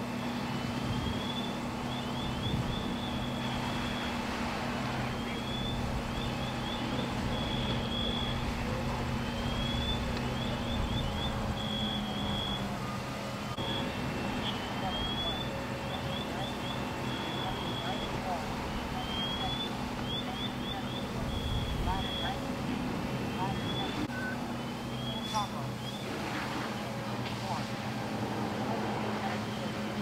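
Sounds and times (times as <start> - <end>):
water spraying: 0.0 - 21.3, 25.4 - 30.0
fire engine pump rumbling: 0.0 - 30.0
siren tone glide and chirps: 0.1 - 4.3, 5.0 - 22.4, 23.2 - 26.1.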